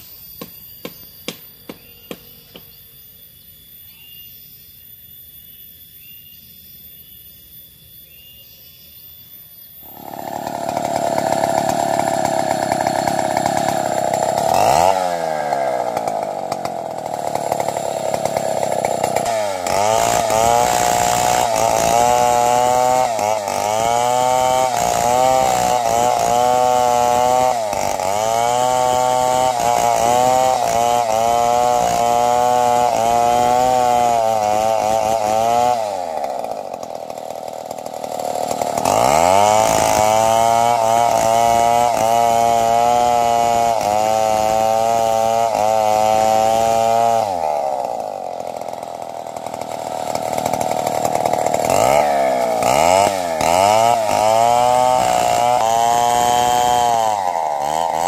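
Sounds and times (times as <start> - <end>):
chainsaw cutting wood: 0.0 - 2.9, 9.8 - 58.0.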